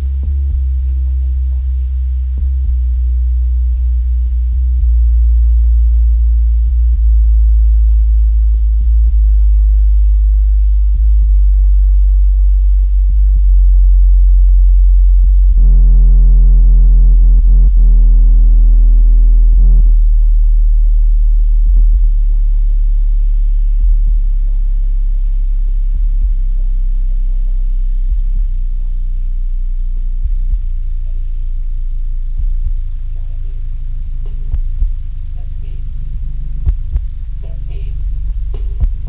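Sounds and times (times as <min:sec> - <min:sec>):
buzzy overtones: 0:00.0 - 0:39.0
deep steady bass tones: 0:00.0 - 0:39.0.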